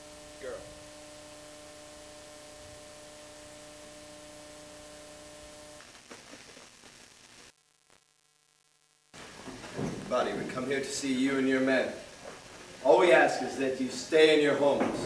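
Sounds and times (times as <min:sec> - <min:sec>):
electrical hum and hiss: 0:00.0 - 0:15.0
faint irregular low noise: 0:00.0 - 0:15.0.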